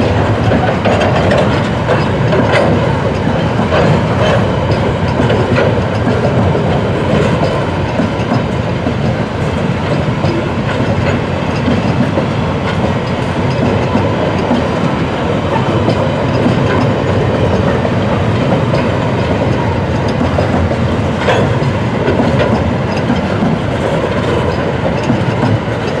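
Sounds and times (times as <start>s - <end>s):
freight wagons rolling on rails: 0.0s - 26.0s
wheels clacking over rail joints: 0.0s - 26.0s.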